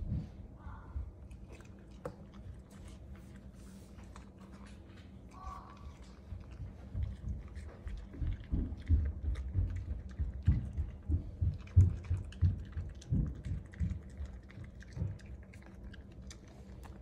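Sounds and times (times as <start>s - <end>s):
puppy chewing: 1.0s - 17.0s.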